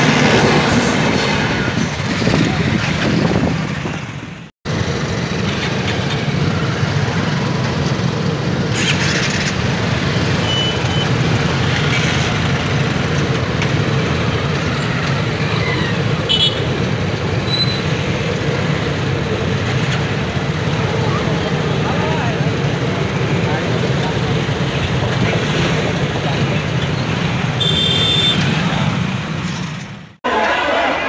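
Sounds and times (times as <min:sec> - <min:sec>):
road vehicle engines running: 0:00.0 - 0:31.0
train coaches rumbling past: 0:00.0 - 0:31.0.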